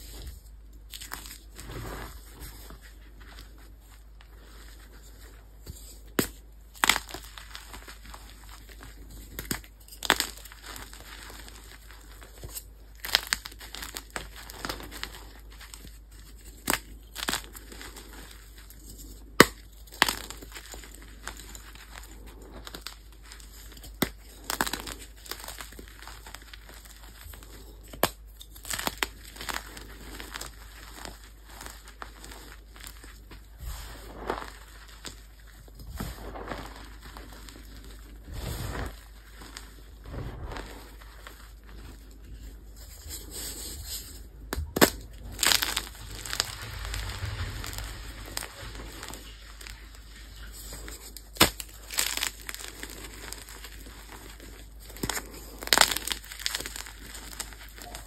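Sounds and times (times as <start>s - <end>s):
chalk blocks crunching: 0.0s - 58.0s
chalk powder crumbling: 0.0s - 58.0s.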